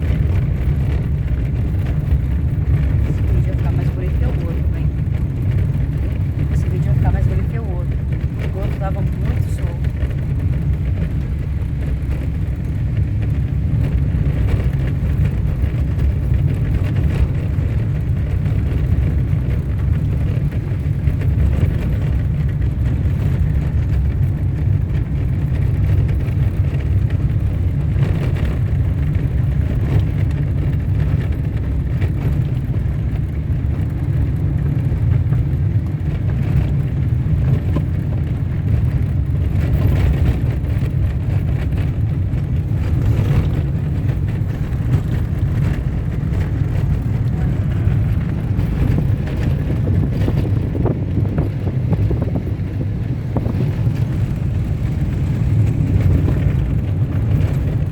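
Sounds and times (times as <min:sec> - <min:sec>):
car driving on dirt road: 0:00.0 - 0:57.9.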